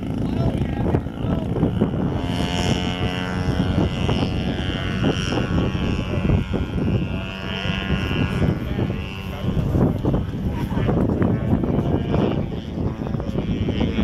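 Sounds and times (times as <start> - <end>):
model airplane engine flying past: 0.0 - 14.0.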